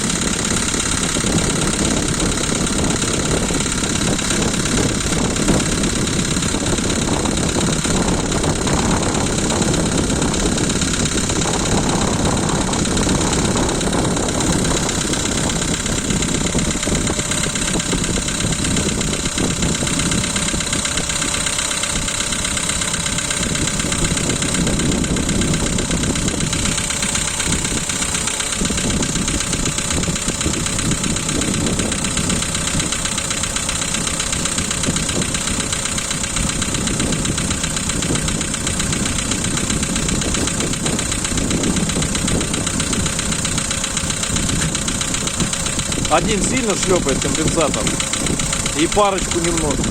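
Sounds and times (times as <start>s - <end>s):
car engine idling: 0.0s - 49.9s
rapid tapping knock: 0.5s - 49.9s.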